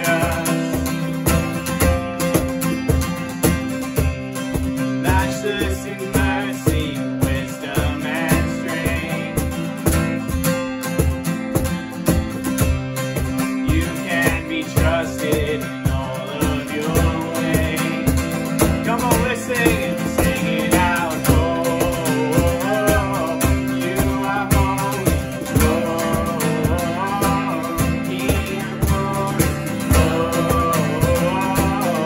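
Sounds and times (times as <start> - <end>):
person singing: 0.0 - 3.6, 4.5 - 10.1, 13.2 - 32.0
acoustic guitar strumming: 0.0 - 32.0
cajon beat: 0.0 - 32.0.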